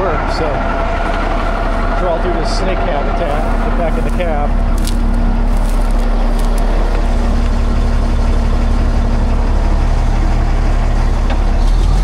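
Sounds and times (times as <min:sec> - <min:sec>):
diesel engine idling loudly: 0:00.0 - 0:12.0.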